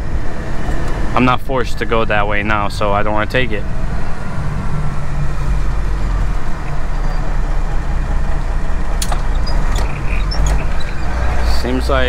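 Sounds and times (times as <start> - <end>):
diesel engine and road drone: 0.0 - 12.0.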